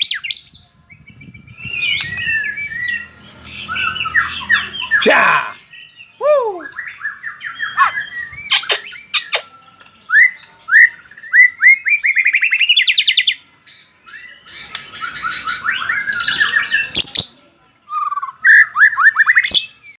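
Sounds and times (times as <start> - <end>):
songbird singing varied song: 0.0 - 20.0.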